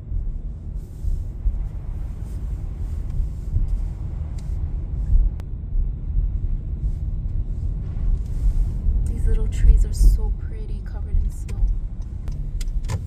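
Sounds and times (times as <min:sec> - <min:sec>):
car driving cabin rumble: 0:00.0 - 0:13.0.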